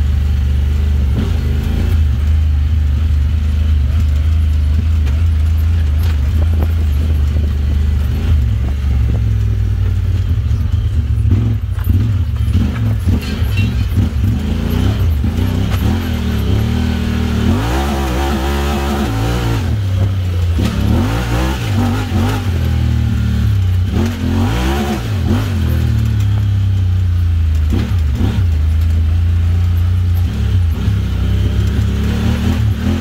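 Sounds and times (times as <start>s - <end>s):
engine revving: 0.0s - 33.0s.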